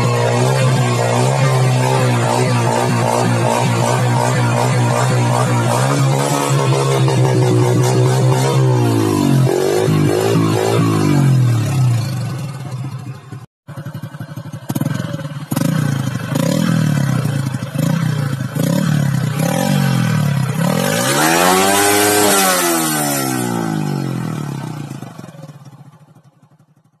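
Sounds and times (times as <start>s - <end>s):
motorcycle exhaust revving: 0.0s - 27.0s.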